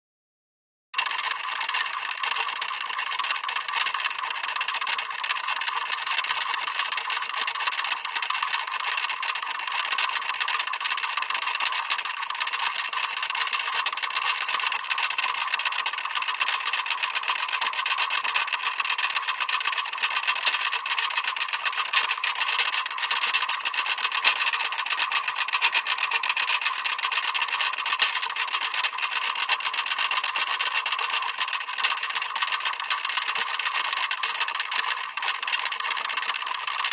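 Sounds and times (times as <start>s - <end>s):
clock ticking: 1.0s - 36.9s.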